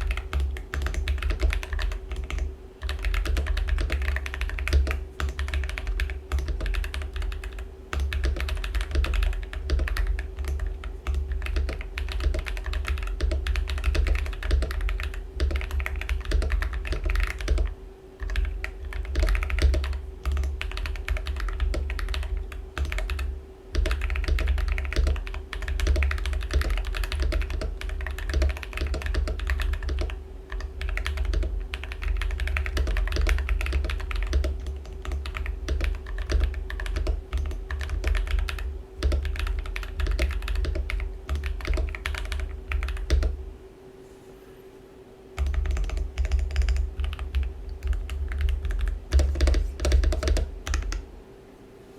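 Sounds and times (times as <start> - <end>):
mechanical keyboard typing: 0.0 - 43.4, 45.4 - 51.0.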